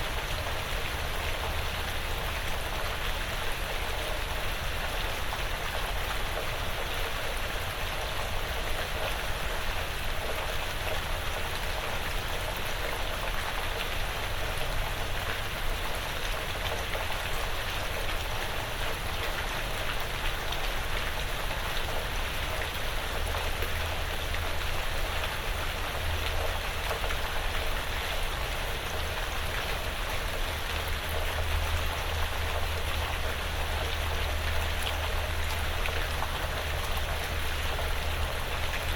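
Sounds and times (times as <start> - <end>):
light rain pattering on roof: 0.0 - 38.9.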